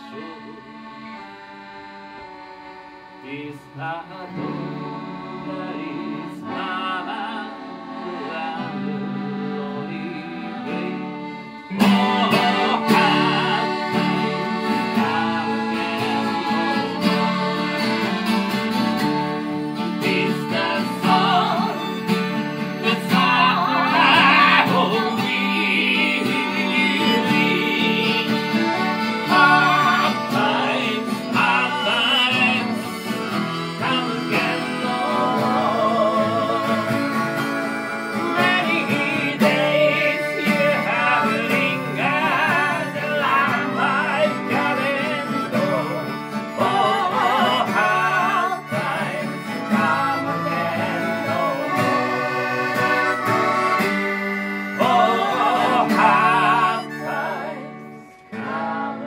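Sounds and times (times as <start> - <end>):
acoustic guitar: 0.0 - 59.0
blues harmonica: 0.0 - 59.0
button accordion: 0.0 - 59.0.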